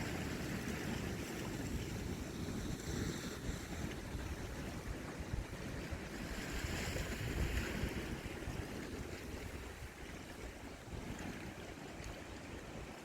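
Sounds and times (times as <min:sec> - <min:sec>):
wind buffeting microphone: 0:00.0 - 0:12.9
sea waves: 0:00.0 - 0:13.0.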